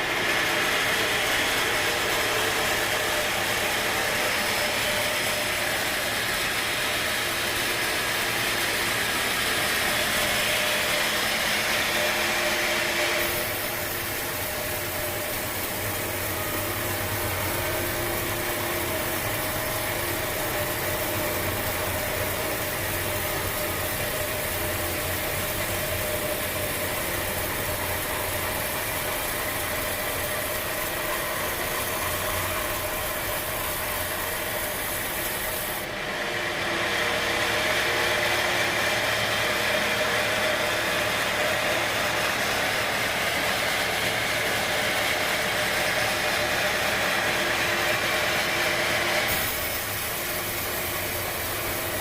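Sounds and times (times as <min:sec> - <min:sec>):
sawmill machinery clattering: 0:00.0 - 0:52.0.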